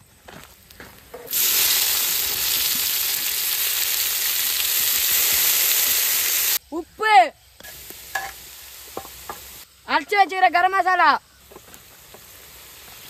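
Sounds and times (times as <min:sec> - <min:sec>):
onions sizzling in hot oil: 0:00.6 - 0:06.6, 0:07.4 - 0:13.0.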